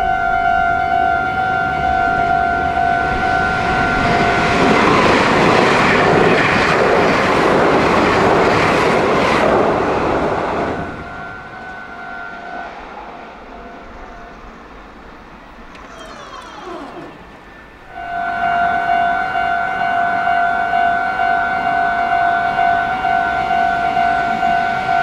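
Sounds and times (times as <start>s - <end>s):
train passing over steel bridge: 0.0s - 25.0s.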